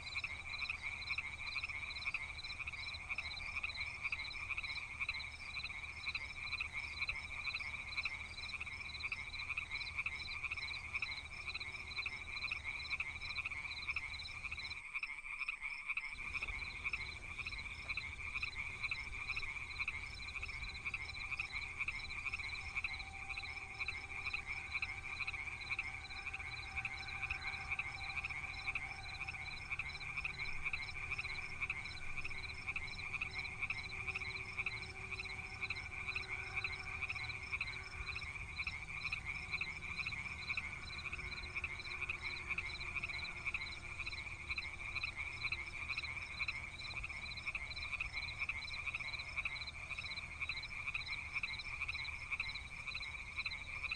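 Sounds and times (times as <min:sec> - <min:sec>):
frogs calling: 0:00.0 - 0:53.9.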